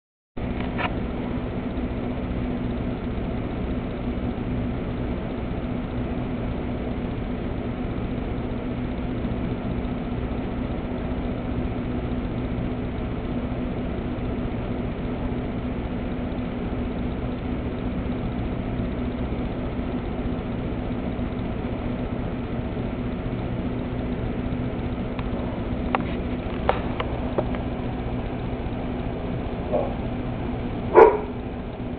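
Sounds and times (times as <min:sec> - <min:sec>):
mechanical hum with low tone: 0:00.4 - 0:31.9.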